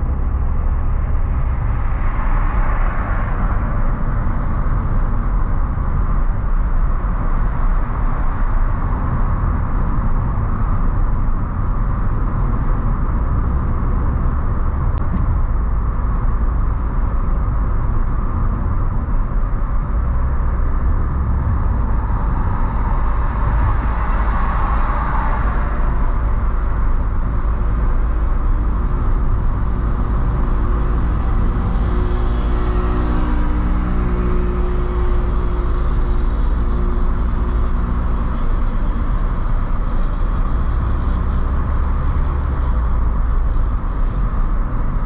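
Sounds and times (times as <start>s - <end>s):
car driving at highway speed: 0.0s - 45.0s.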